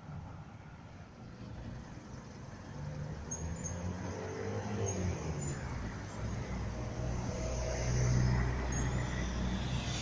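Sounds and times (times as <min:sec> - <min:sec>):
cars passing on road: 0:00.0 - 0:10.0.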